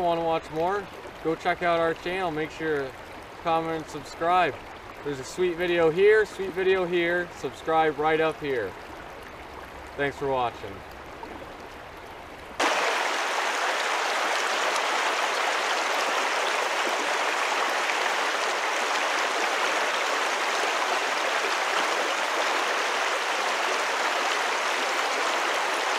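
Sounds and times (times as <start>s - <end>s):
creek water flowing: 0.0s - 25.9s.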